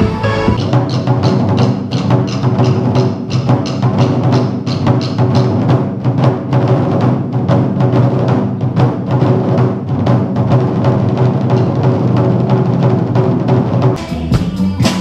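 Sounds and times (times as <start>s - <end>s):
drum ensemble playing fast: 0.0s - 15.0s.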